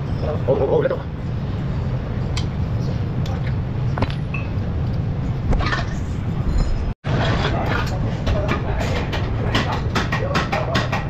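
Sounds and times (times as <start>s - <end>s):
low workshop hum: 0.0s - 11.0s.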